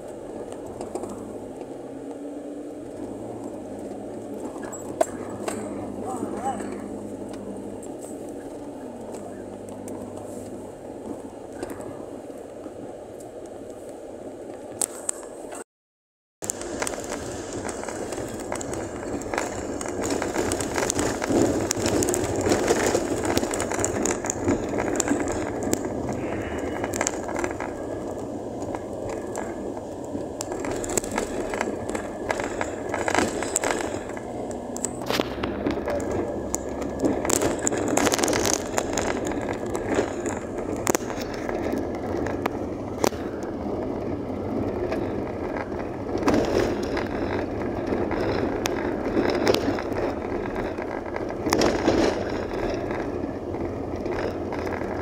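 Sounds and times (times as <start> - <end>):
vehicle knocking and rattling: 0.0 - 12.1, 16.4 - 55.0
tyre and road rumble: 0.0 - 15.6, 16.4 - 55.0.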